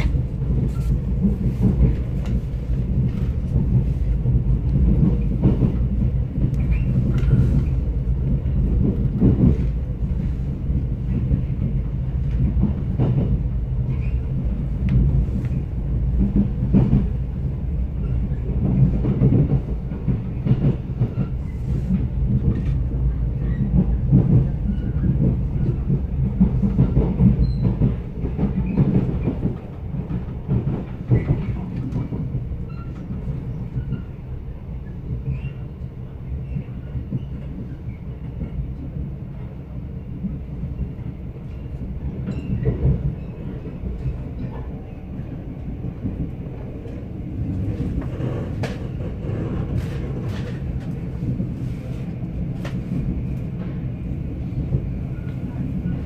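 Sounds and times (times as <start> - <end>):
train rumble from inside carriage: 0.0 - 56.0.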